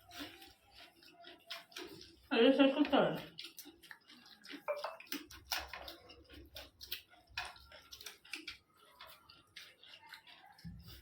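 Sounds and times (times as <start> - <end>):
people chewing with wet mouth smacks: 0.0 - 11.0.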